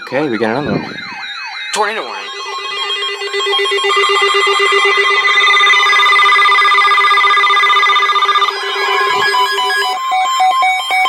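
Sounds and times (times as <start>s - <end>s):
pulsing lower tone: 0.0s - 10.4s
steady high alert tone: 0.0s - 10.5s
wavering siren-like tones: 0.0s - 11.0s.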